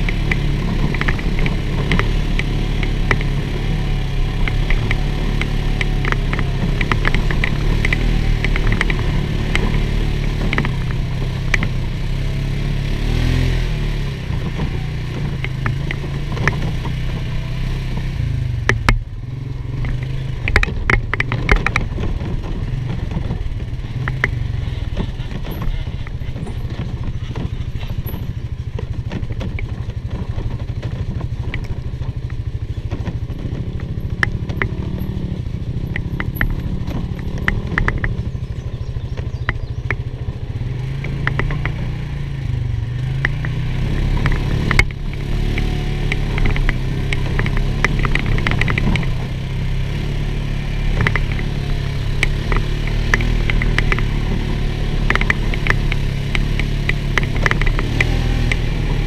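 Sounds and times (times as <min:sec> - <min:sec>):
atv engine under load: 0:00.0 - 0:59.0.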